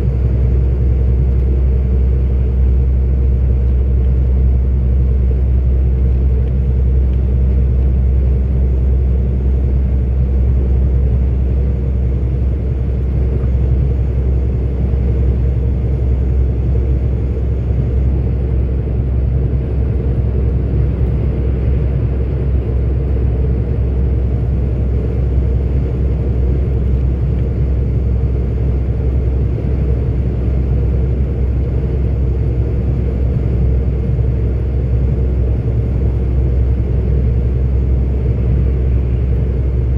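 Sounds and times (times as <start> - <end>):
road noise: 0.0 - 39.9
truck diesel engine cruising: 0.0 - 39.9.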